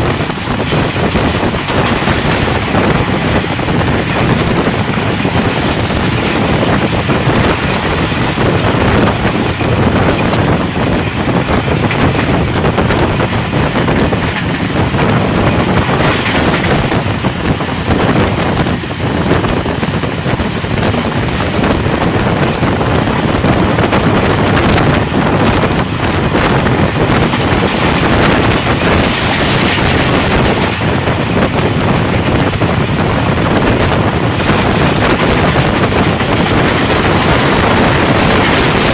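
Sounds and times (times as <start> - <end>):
train rumbling: 0.0 - 38.9
wind rushing on microphone: 0.0 - 38.9.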